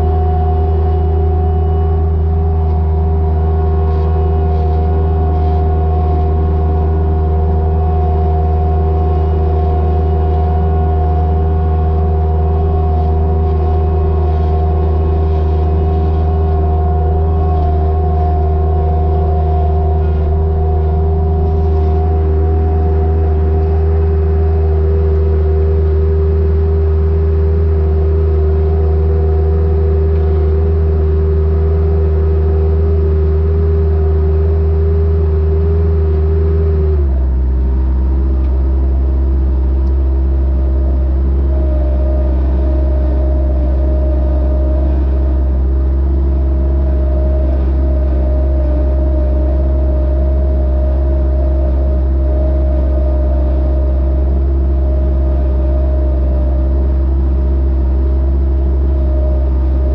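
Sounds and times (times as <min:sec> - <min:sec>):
steady whine: 0:00.0 - 0:59.9
tractor engine running: 0:00.0 - 0:59.9.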